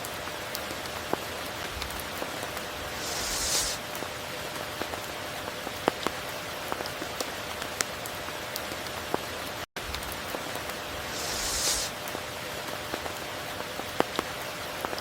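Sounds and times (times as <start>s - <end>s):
steady rain with ticking drops: 0.0s - 15.0s.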